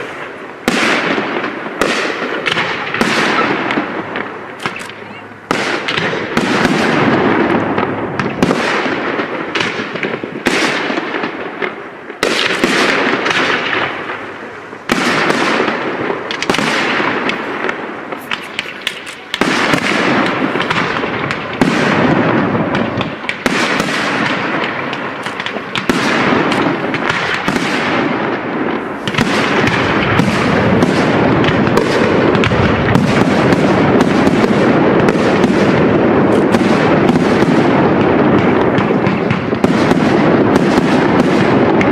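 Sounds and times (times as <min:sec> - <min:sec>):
fireworks bursting with crackle: 0:00.0 - 0:41.9.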